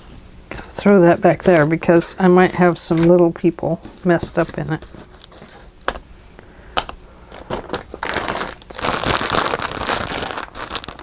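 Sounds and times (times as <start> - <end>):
crinkling and rustling: 0.5 - 11.0.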